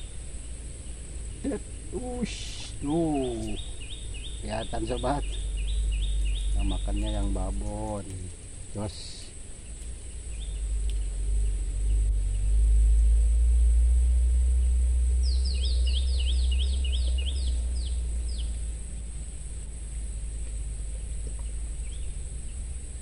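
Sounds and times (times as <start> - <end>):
bird downward-sliding notes: 0.0 - 19.2
high insect drone: 0.0 - 23.0
low rumble: 0.0 - 23.0.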